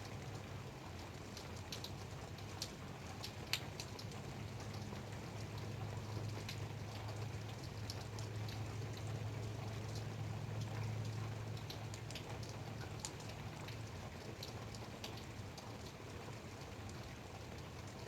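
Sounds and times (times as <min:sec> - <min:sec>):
rain drops ticking: 0:00.0 - 0:18.0
rain pattering: 0:00.0 - 0:18.0.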